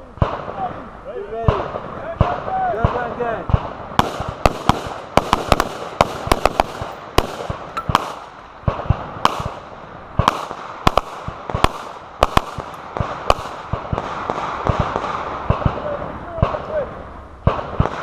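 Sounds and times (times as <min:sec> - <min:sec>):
gunshots: 0:00.2 - 0:00.8, 0:01.4 - 0:18.0.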